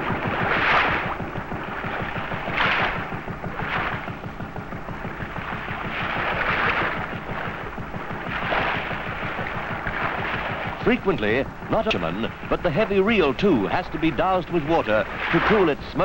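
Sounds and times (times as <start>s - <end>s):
water washing against boat hull: 0.0s - 16.0s.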